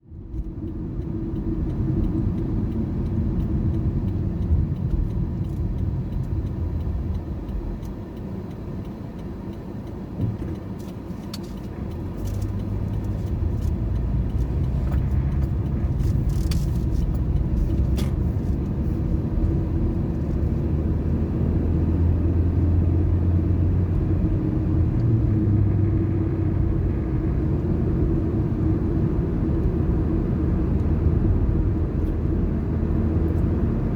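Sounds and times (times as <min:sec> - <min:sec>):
car driving on road: 0:00.0 - 0:33.9.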